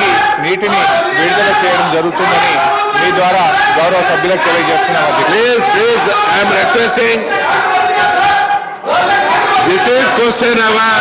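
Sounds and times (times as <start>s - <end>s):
men chanting slogans: 0.0s - 11.0s.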